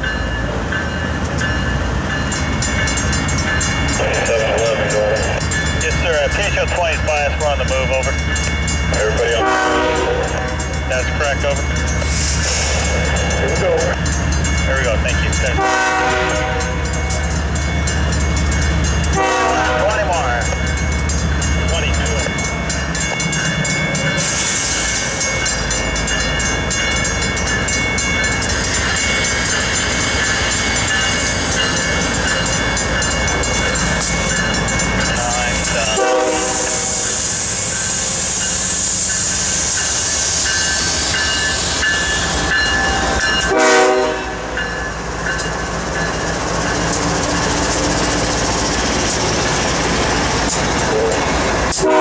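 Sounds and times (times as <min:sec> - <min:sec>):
freight train rumbling: 0:00.0 - 0:52.0.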